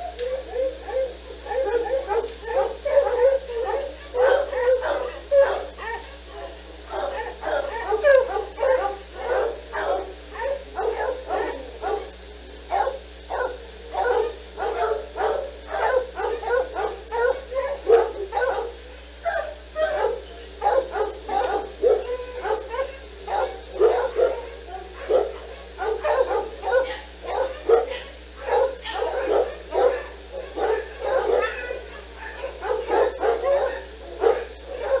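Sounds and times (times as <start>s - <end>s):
dogs barking and yipping: 0.0s - 35.0s
low electrical hum: 0.0s - 35.0s.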